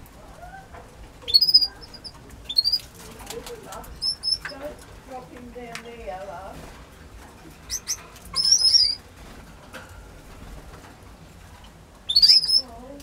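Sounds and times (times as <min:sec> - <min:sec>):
canary chirping and calling: 0:00.0 - 0:10.8, 0:11.4 - 0:13.0.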